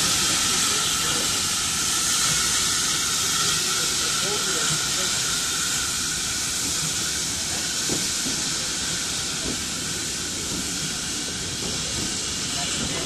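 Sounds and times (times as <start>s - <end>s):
steam hissing from locomotive: 0.0s - 13.0s.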